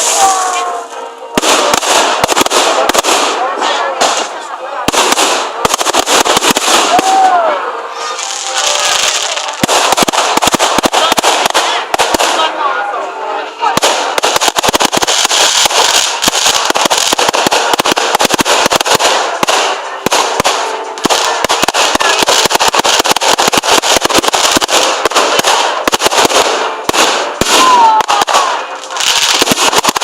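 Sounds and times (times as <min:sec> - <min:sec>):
fireworks crackling and banging: 0:00.0 - 0:12.8, 0:13.5 - 0:30.0.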